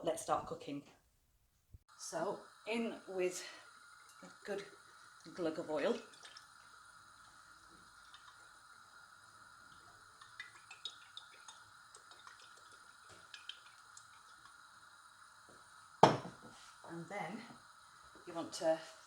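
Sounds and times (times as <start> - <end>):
faint steady hum: 1.7 - 19.0
oil ticking and crackling: 1.9 - 18.6.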